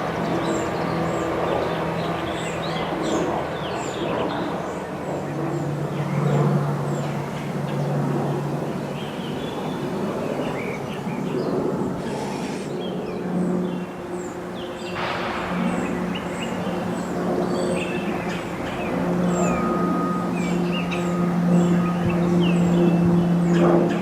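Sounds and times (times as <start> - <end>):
birds chirping: 0.0 - 24.0
distant aircraft engine drone: 0.0 - 24.0.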